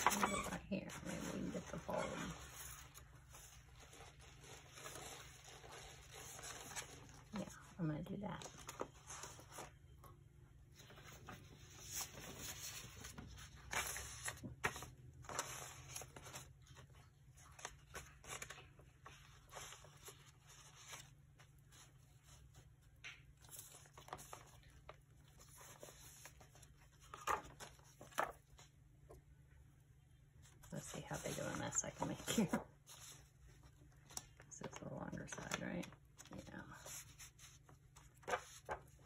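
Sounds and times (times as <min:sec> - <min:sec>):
paper rustling and crinkling: 0:00.0 - 0:10.1, 0:10.7 - 0:29.2, 0:30.4 - 0:39.0.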